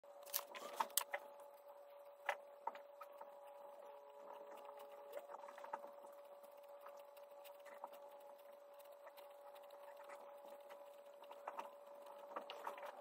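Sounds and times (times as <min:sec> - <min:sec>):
faint steady hum: 0:00.1 - 0:13.0
pen nib scratching on paper: 0:02.2 - 0:13.0.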